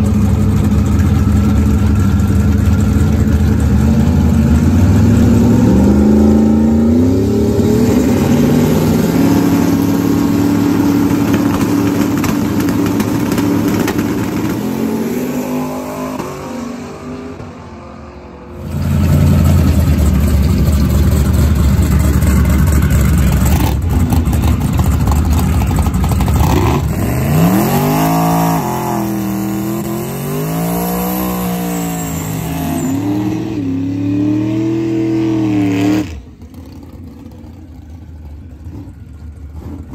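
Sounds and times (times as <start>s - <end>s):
truck engine accelerating: 0.0s - 39.9s
engine revving: 2.6s - 37.4s.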